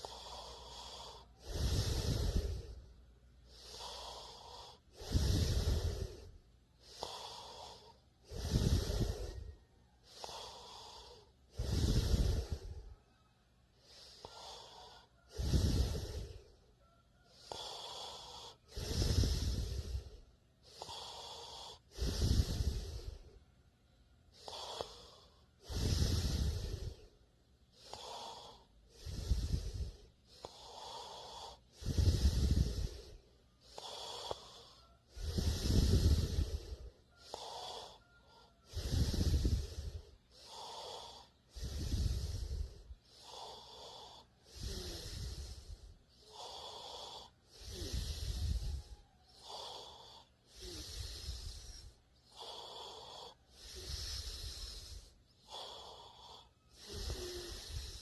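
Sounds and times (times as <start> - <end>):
person snoring: 0.0 - 13.0, 13.8 - 23.4, 24.3 - 58.0
hissing breath: 0.0 - 13.1, 13.7 - 23.4, 24.3 - 58.0.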